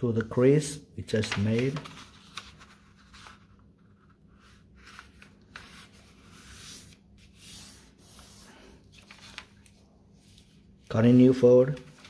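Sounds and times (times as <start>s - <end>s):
paper rubbing and rustling: 1.2s - 12.0s.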